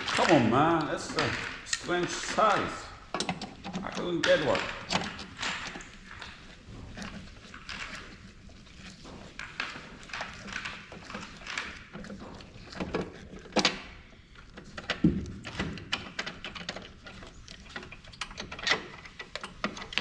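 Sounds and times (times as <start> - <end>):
metal tools clicking and knocking: 0.0 - 8.2, 8.8 - 20.0.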